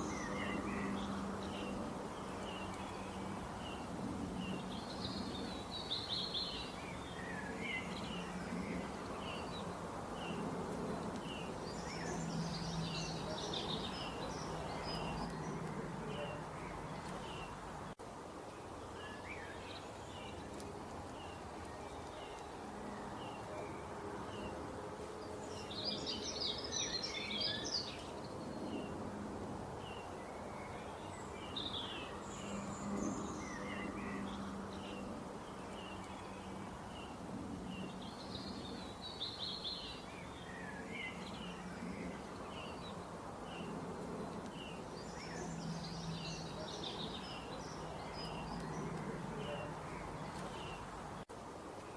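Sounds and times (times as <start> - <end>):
small birds chirping: 0.0 - 29.0, 29.8 - 51.9.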